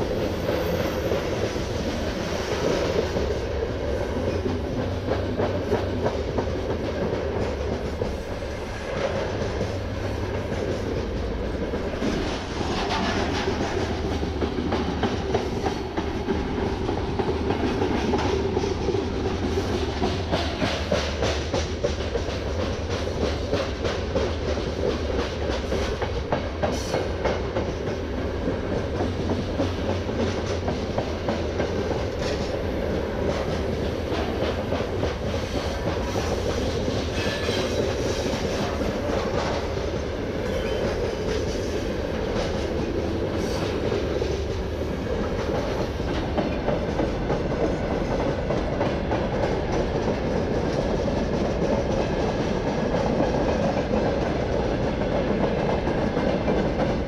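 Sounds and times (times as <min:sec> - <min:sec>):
rumble of train wheels on rail: 0:00.0 - 0:57.0
wheels clicking over rail joints: 0:00.0 - 0:57.0.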